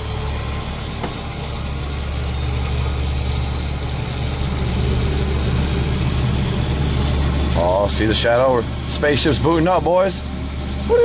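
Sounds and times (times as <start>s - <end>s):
helicopter engine and rotors: 0.0s - 11.0s.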